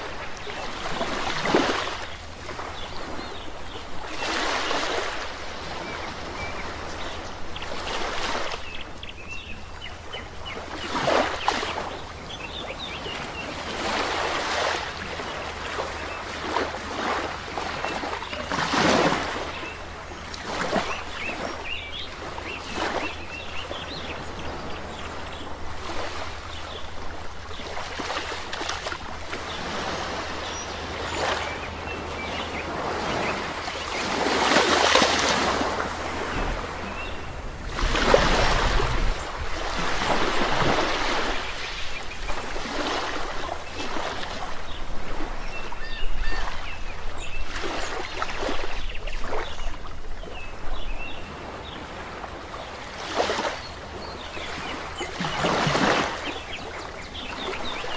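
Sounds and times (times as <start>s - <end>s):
sea waves washing onto shore: 0.0s - 57.9s.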